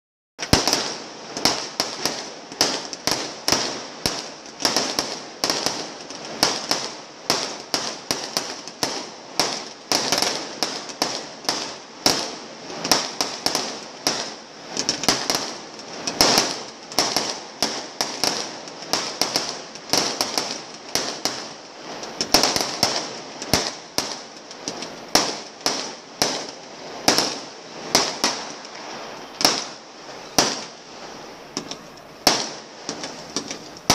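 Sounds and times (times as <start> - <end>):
fireworks bangs: 0.4 - 33.9.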